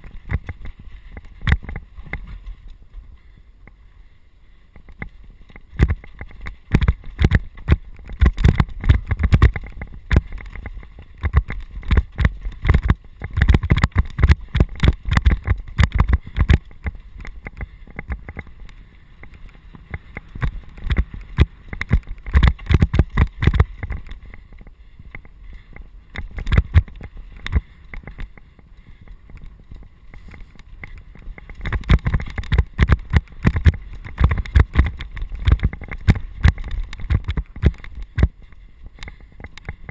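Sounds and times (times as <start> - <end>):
mountain bike rattling over rocks: 0.0 - 3.2, 4.7 - 39.9.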